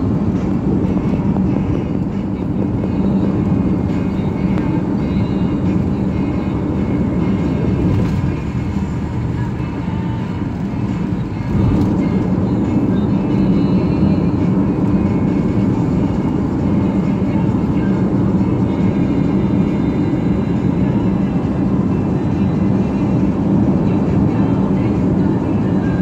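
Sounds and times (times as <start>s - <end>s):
car driving at freeway speed: 0.0s - 26.0s.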